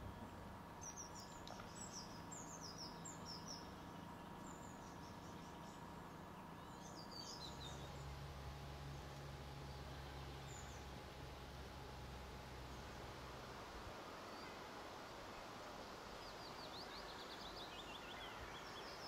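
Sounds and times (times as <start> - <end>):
low steady rumble: 0.0 - 19.0
small songbirds chirping: 0.0 - 19.0.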